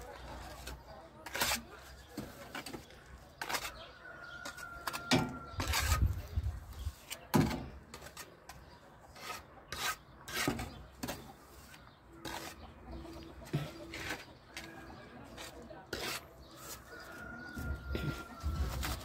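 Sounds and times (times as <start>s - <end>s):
scraping and rubbing strokes: 0.0s - 7.3s, 7.9s - 17.2s, 18.0s - 19.0s.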